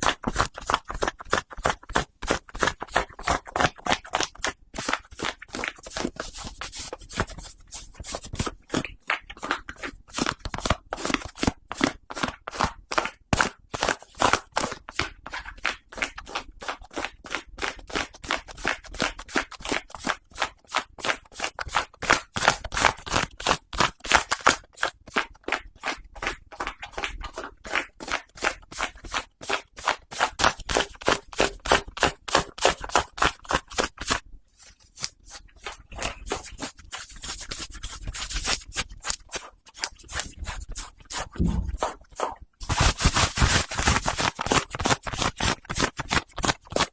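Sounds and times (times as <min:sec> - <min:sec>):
scratching and rubbing on hat fabric: 0:00.0 - 0:17.0, 0:17.6 - 0:46.9.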